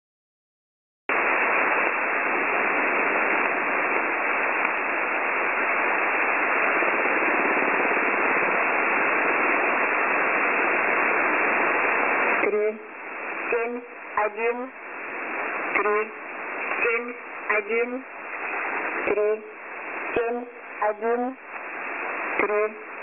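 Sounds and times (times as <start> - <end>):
shortwave radio hiss: 1.1 - 23.0.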